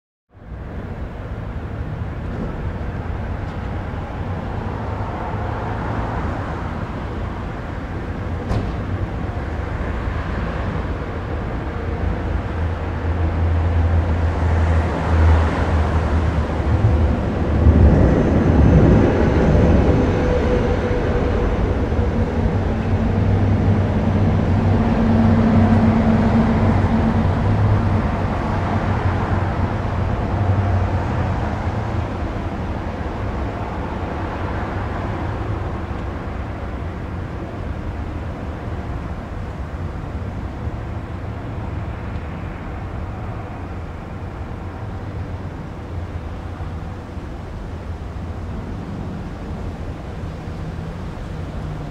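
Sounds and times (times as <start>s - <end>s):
low traffic rumble: 0.3s - 51.9s
cars driving past: 0.4s - 51.9s.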